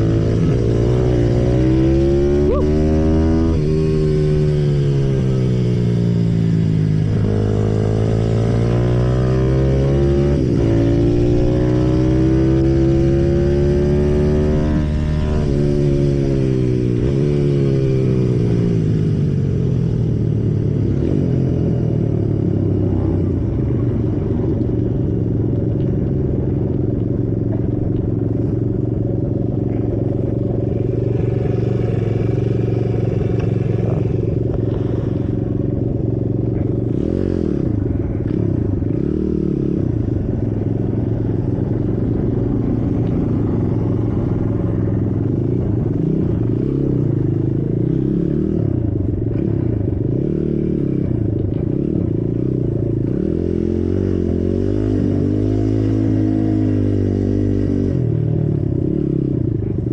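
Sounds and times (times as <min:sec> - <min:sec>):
motorbike engine running: 0:09.8 - 0:59.9.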